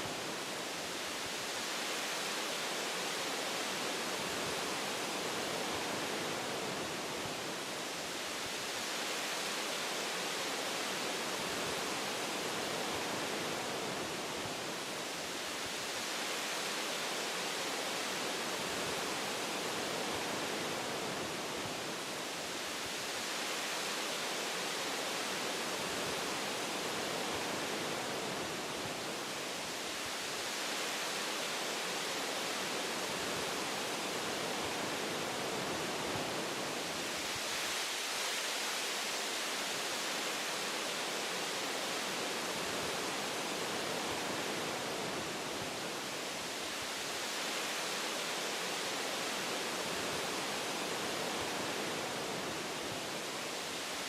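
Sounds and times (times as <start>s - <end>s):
wind through tree branches: 0.0s - 54.0s.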